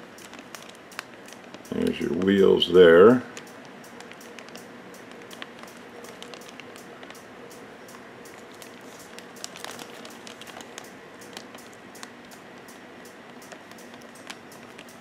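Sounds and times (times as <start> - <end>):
plastic bag crinkling: 0.0 - 7.3, 8.3 - 12.4, 13.3 - 15.0
faint steady hum: 0.0 - 15.0.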